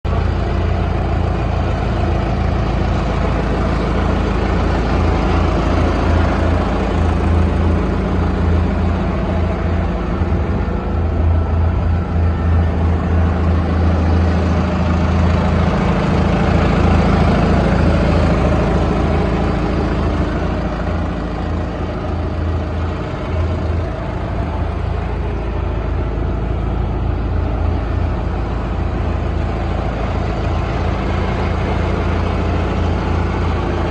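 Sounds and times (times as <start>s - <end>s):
concrete pump engine running: 0.0s - 33.9s.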